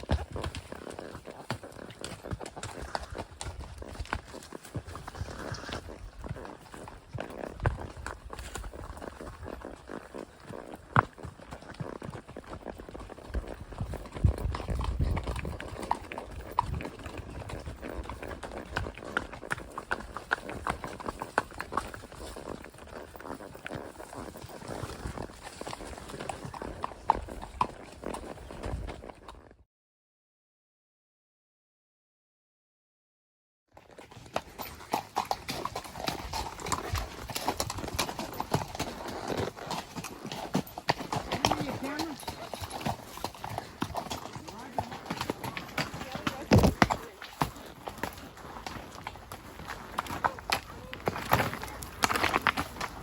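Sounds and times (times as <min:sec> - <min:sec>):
horse hooves clip-clopping: 0:00.0 - 0:29.6, 0:33.8 - 0:53.0.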